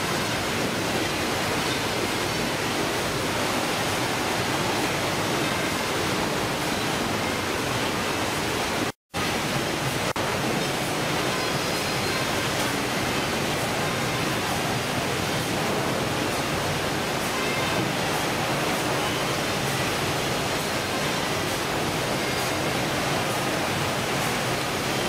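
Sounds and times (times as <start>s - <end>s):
processing machinery: 0.0s - 25.0s
running water: 0.0s - 25.0s.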